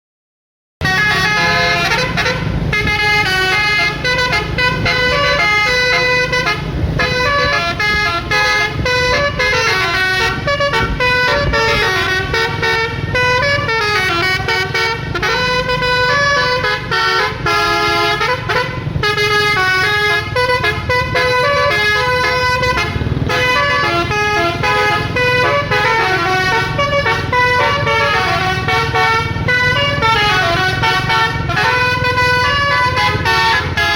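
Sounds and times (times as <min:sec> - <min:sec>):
multi-tone bus air horn tune: 0:00.8 - 0:33.9
steady low rumble: 0:00.9 - 0:33.9.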